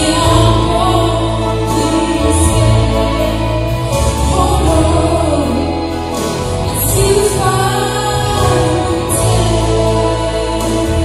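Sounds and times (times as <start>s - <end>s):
amplified backing music: 0.0s - 11.0s
woman singing into microphone: 0.0s - 11.0s.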